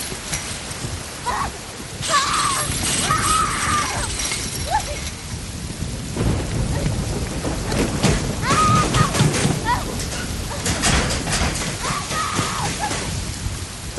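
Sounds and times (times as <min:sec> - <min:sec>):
steady rain: 0:00.0 - 0:13.9.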